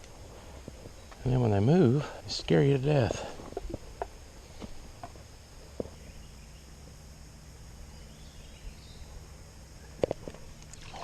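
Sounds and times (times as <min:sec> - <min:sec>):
low background rush: 0:00.0 - 0:10.9
insects trilling: 0:00.0 - 0:11.0.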